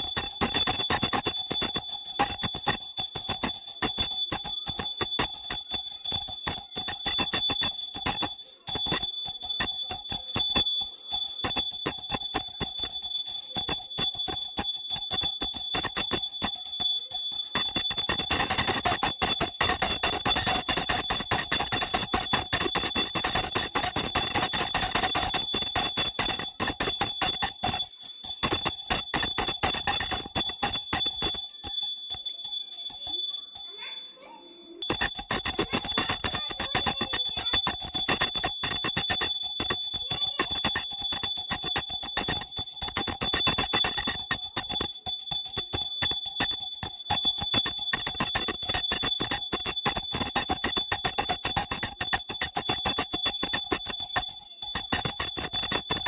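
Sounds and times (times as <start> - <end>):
temple bell rung rapidly: 0.0 - 34.0, 34.8 - 56.0.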